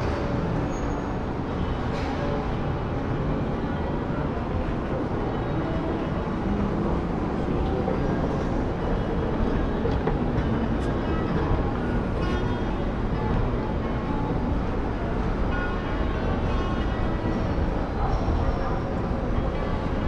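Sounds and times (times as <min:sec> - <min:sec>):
shopping mall rumble and hum: 0:00.0 - 0:20.0.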